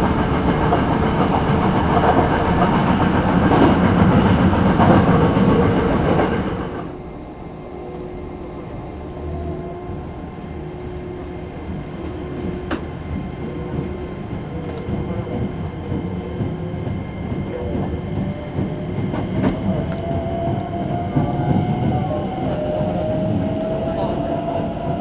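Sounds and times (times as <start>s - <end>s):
electric train motor whine: 0.0s - 25.0s
train rumble: 0.0s - 25.0s.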